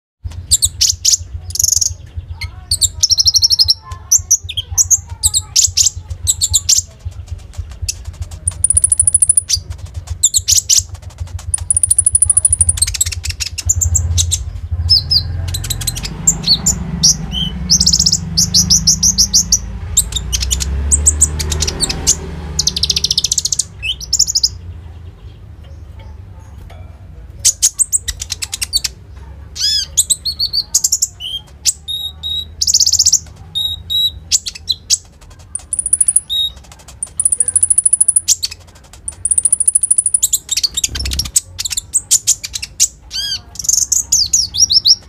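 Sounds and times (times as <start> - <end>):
sunbird singing high chirps and trills: 0.4 - 10.9, 11.5 - 34.9, 35.6 - 45.0.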